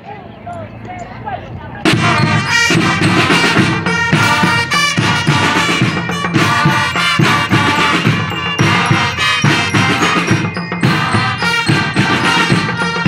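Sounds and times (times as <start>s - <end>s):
brass and drum band playing: 1.8s - 13.0s.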